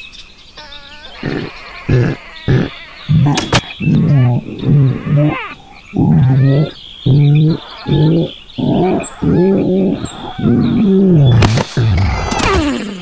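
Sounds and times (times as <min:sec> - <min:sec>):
cartoon character vocal sounds: 0:00.6 - 0:13.0.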